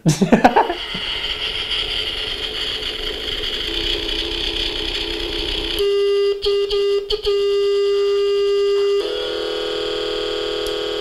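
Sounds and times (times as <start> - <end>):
hissy electronic feedback noise: 0.4 - 11.0
horn-like electronic tone: 0.7 - 11.0.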